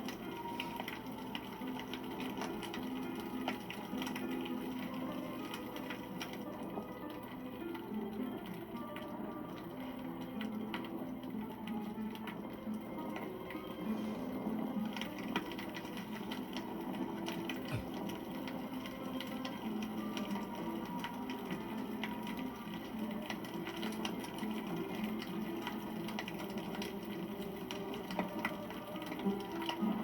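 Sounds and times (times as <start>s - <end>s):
campfire crackling: 0.0s - 30.0s
low burning sound: 0.0s - 30.0s.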